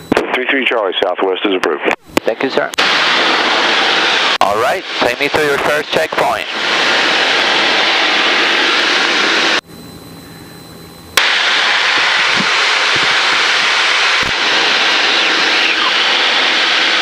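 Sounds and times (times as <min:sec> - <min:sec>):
airplane cabin engine and wind noise: 0:00.0 - 0:17.0.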